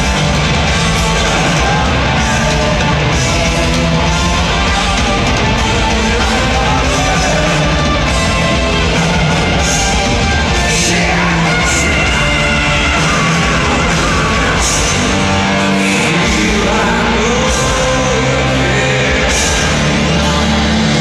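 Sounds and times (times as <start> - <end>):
hard rock band playing live: 0.0 - 21.0
person singing: 0.8 - 21.0.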